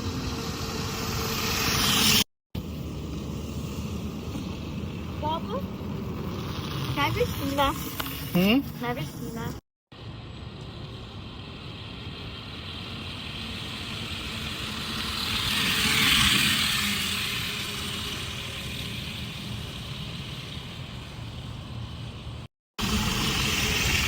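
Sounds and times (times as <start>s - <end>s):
electric dirt bike whirring past: 0.0s - 24.0s.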